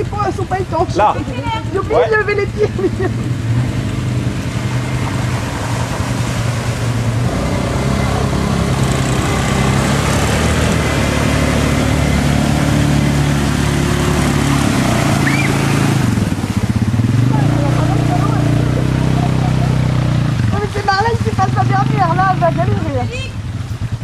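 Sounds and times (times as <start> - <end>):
quad bike engine running: 0.0 - 24.0
water splashing around wheels: 0.0 - 24.0.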